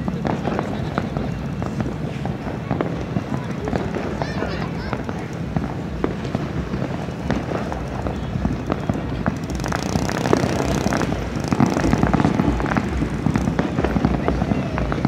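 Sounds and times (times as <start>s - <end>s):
continuous fireworks rumble: 0.0s - 15.0s
fireworks cracks and bangs: 0.0s - 15.0s.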